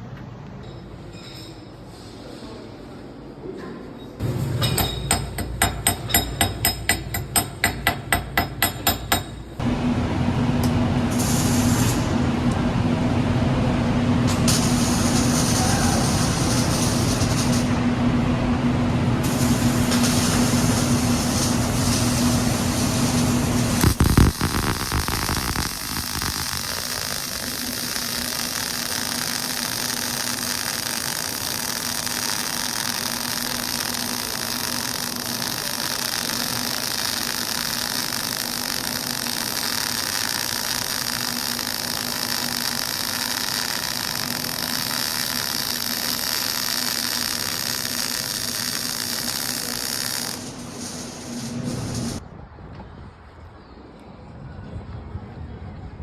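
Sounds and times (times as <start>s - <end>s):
vehicle hiss and hum: 4.2s - 52.3s.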